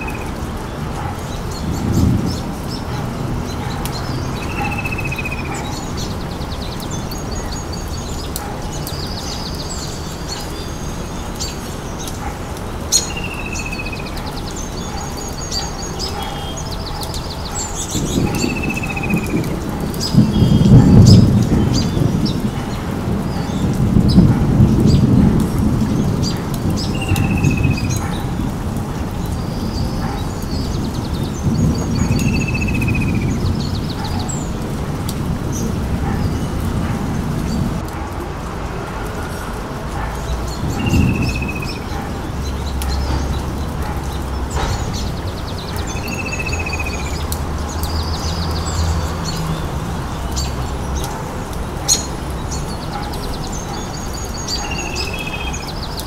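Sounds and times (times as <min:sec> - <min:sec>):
steady rain-like noise: 0:00.0 - 0:56.0.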